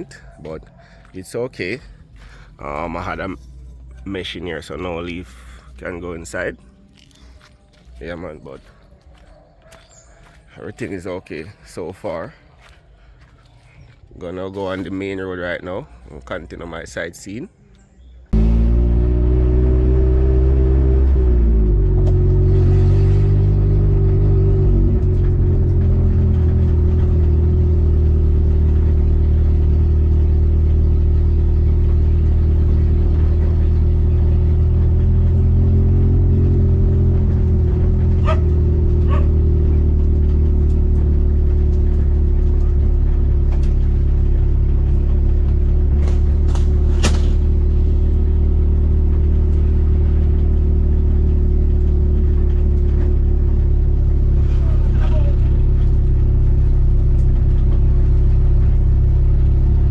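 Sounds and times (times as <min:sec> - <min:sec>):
car engine and road rumble: 0:00.0 - 0:17.0, 0:18.3 - 0:59.9.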